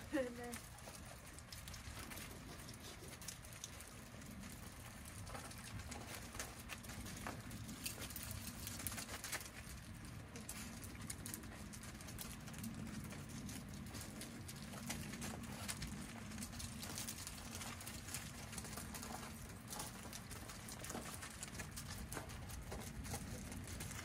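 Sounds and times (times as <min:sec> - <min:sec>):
dog paws on gravel: 0:00.0 - 0:24.0.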